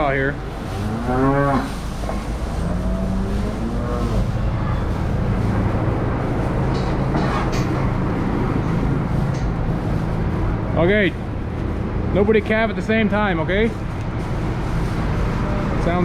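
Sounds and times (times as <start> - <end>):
vehicle engine idling: 1.8 - 16.0.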